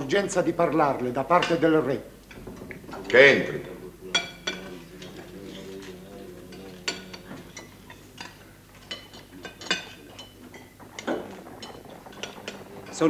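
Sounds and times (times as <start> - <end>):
dishes and cutlery clinking: 0.0 - 13.0
faint background murmur: 0.0 - 13.0.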